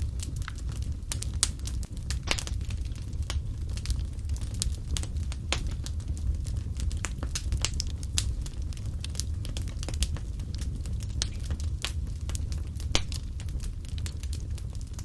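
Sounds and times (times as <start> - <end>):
low rumble: 0.0 - 15.0
wood fire crackling: 0.0 - 15.0.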